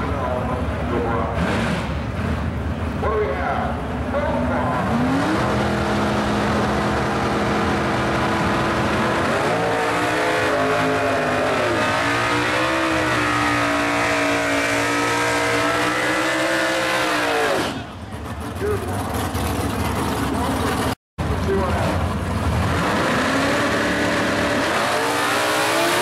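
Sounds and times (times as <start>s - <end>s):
racing car engine at high revs: 0.9s - 2.9s, 4.5s - 26.0s
tires spinning on pavement: 4.5s - 26.0s.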